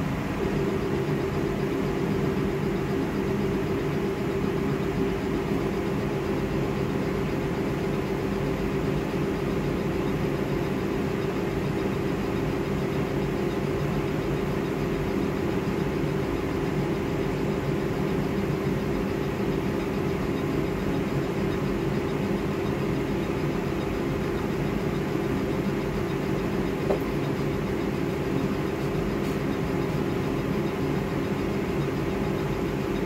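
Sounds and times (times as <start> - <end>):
laser engraver humming: 0.0 - 33.0
mid-pitched machine tone: 0.0 - 33.0.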